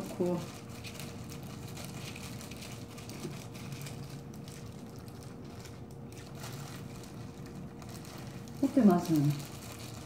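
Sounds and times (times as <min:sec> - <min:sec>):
plastic glove crinkling: 0:00.0 - 0:10.0
steady low hum: 0:00.0 - 0:10.0.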